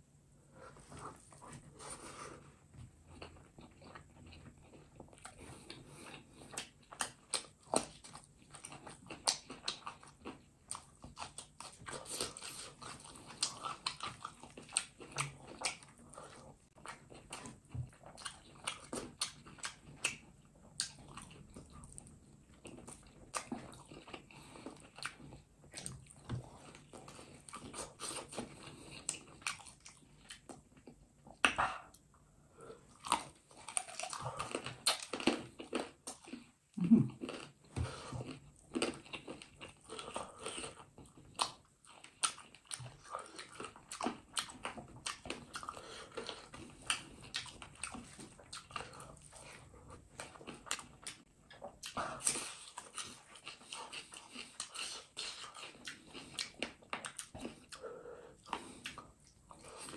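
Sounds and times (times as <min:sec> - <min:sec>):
wet chewing and lip smacking: 0:03.1 - 0:32.0, 0:32.9 - 0:59.9.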